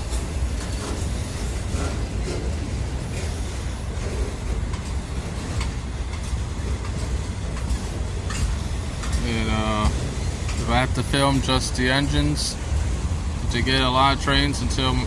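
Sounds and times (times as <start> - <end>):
train wheels rumbling on rail: 0.0 - 15.0
wheels clicking over rail joints: 0.0 - 15.0.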